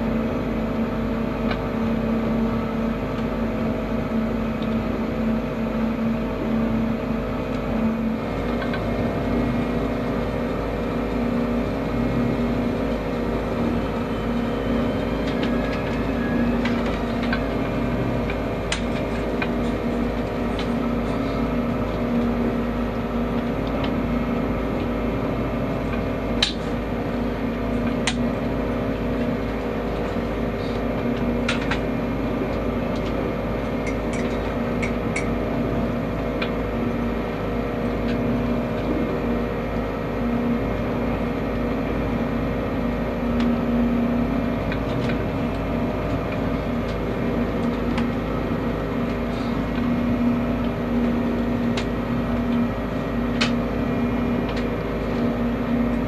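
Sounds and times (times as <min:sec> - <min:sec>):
boat diesel engine droning: 0:00.0 - 0:56.0.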